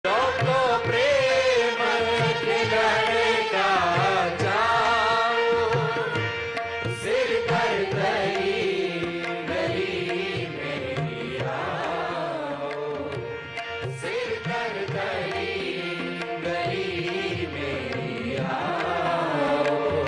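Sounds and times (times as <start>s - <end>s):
tabla drumming: 0.1s - 20.0s.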